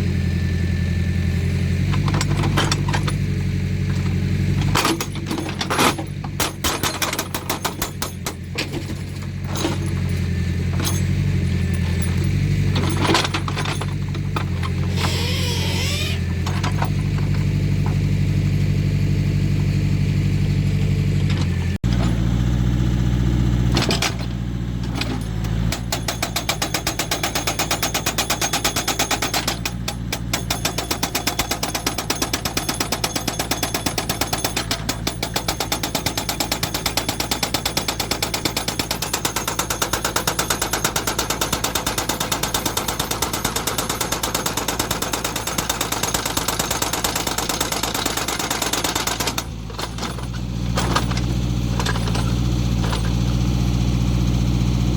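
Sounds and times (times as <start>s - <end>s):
diesel engine running: 0.0s - 54.9s
hydraulic breaker hammering rock: 1.4s - 18.5s, 23.7s - 53.9s.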